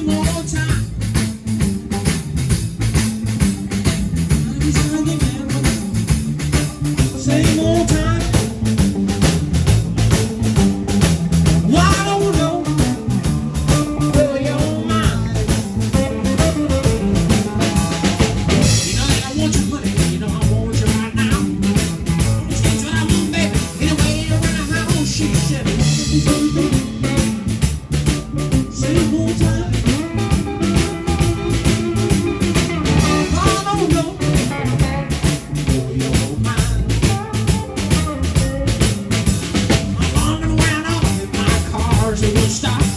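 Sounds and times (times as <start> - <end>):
band playing live: 0.0 - 42.9
drum kit beat: 0.0 - 42.9.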